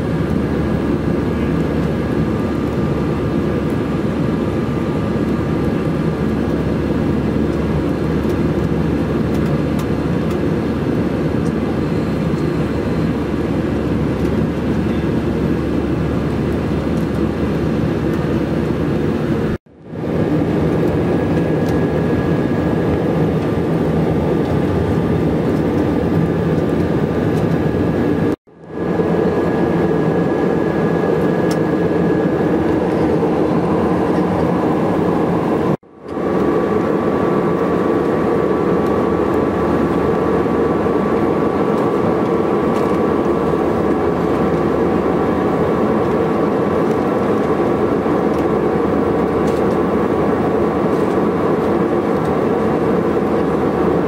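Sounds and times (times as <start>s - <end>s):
airplane cabin noise in flight: 0.0s - 54.0s.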